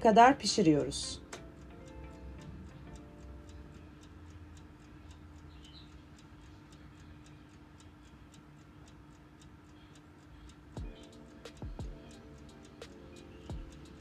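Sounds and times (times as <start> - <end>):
mechanical timer ticking: 0.0 - 14.0
oven humming: 0.0 - 14.0.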